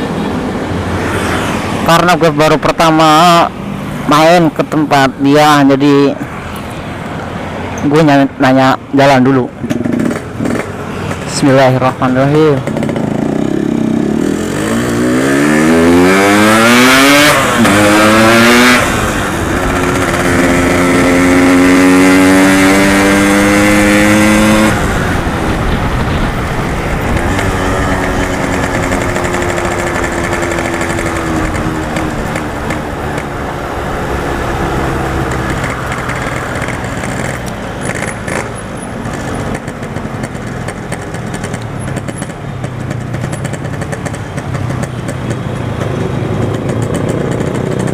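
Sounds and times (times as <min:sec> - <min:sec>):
two-stroke motorcycle engine: 0:09.3 - 0:47.9.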